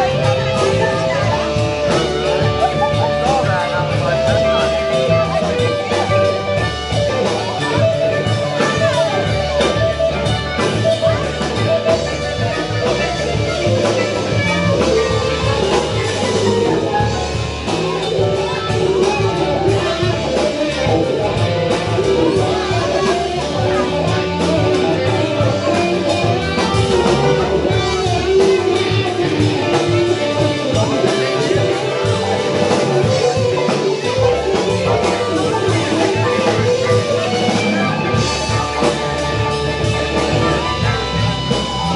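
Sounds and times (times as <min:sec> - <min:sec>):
bass guitar: 0:00.0 - 0:41.9
drums: 0:00.0 - 0:41.9
electric guitar lead with bent notes: 0:00.0 - 0:41.9.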